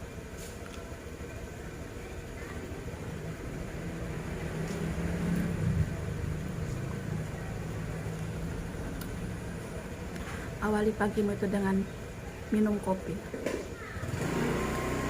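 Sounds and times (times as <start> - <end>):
vehicle engine humming: 0.0 - 13.3, 14.0 - 15.0.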